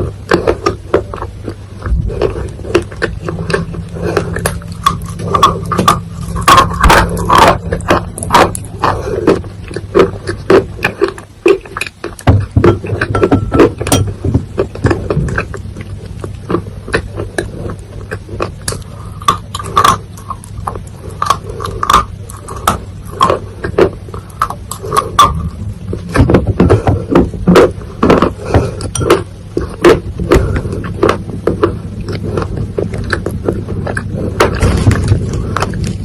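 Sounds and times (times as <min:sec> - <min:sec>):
low hum: 0:00.0 - 0:36.0
mouth chewing wet soil: 0:00.0 - 0:36.0.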